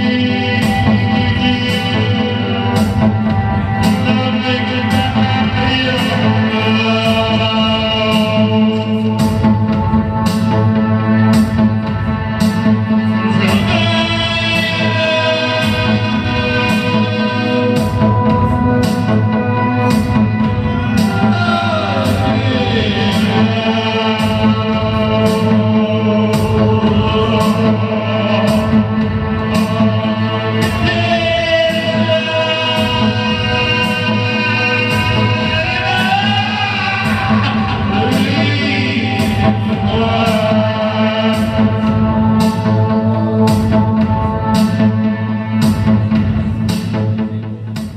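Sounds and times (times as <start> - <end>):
band playing amplified guitar: 0.0 - 47.9.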